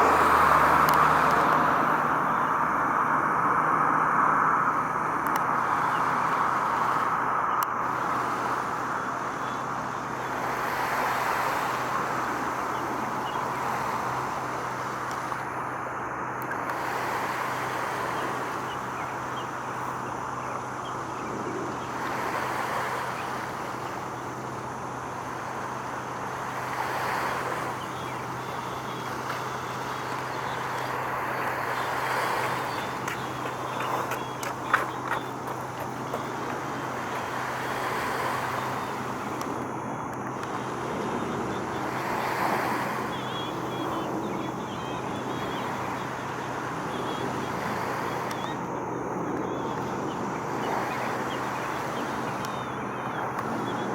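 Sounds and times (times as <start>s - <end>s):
passing vehicles: 0.0s - 53.9s.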